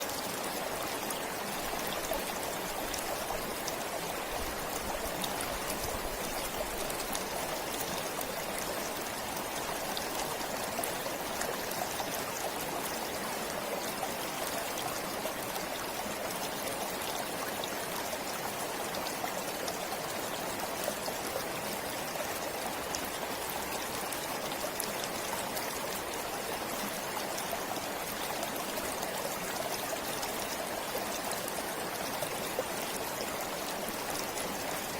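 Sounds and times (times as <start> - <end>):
forest stream flowing: 0.0 - 34.9.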